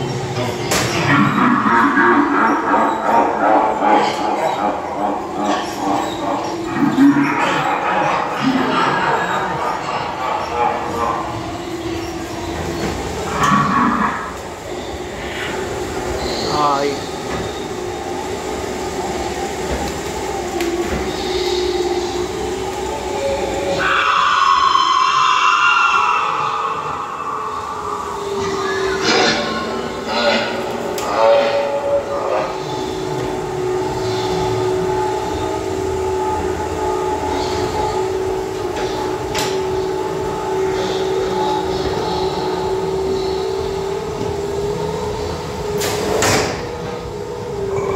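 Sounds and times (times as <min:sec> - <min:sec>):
ride car rumbling on track: 0:00.0 - 0:47.9.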